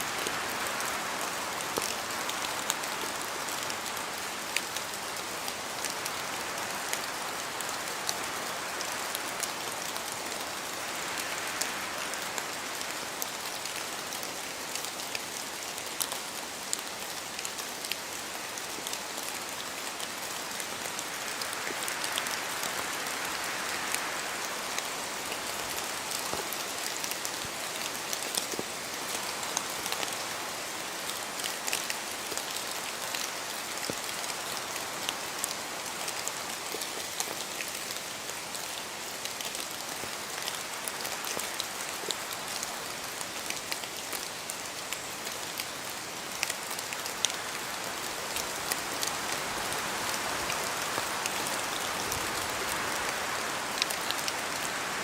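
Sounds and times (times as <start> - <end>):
rain falling on forest: 0.0 - 55.0
wind gusts through trees: 0.0 - 55.0.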